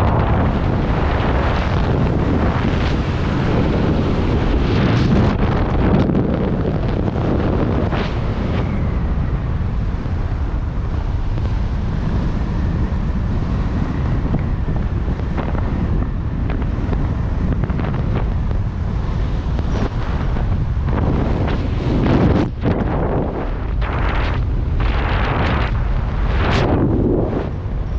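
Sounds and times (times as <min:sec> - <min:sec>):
wind rushing over microphone: 0:00.0 - 0:27.9.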